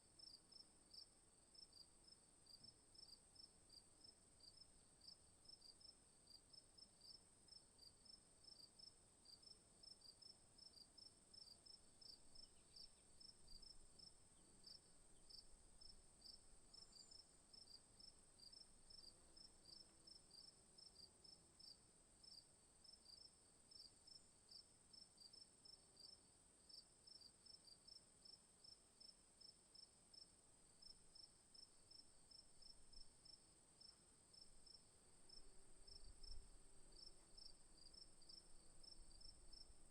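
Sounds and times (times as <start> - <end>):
crickets chirping: 7.0 - 39.9.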